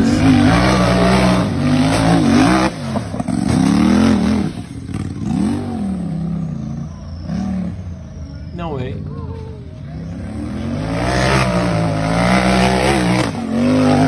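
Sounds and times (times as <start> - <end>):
buggy engine revving: 0.0 - 14.0.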